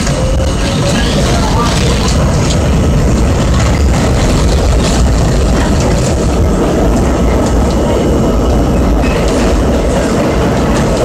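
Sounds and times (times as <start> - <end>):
subway train rumbling in tunnel: 0.0 - 11.0.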